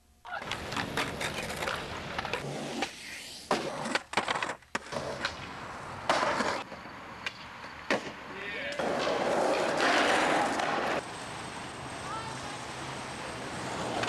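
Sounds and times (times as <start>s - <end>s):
skateboard wheels rolling on concrete: 0.2s - 14.0s
skateboards clacking: 0.3s - 14.0s.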